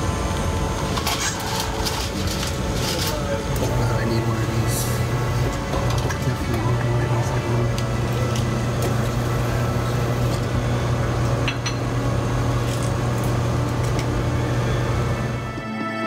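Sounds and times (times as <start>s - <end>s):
coffee machine humming: 0.0s - 16.0s.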